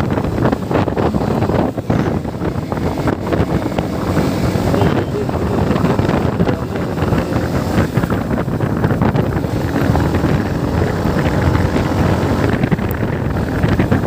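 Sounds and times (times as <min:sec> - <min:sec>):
motorcycle engine and road noise: 0:00.0 - 0:14.0
wind buffeting microphone: 0:00.0 - 0:14.0.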